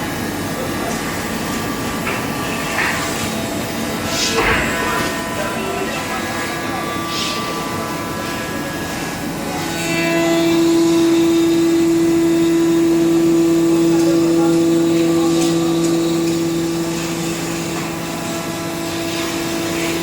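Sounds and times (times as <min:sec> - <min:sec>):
cnc machine humming: 0:00.0 - 0:20.0.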